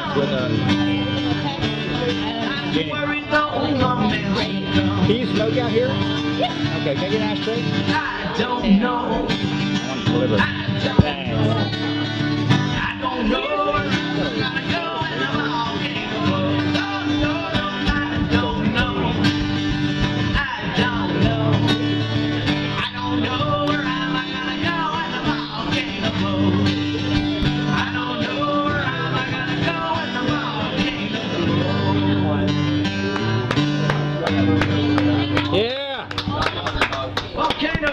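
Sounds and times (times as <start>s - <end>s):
person singing: 0.0s - 6.7s, 7.4s - 33.6s
acoustic guitar strummed: 0.0s - 36.4s.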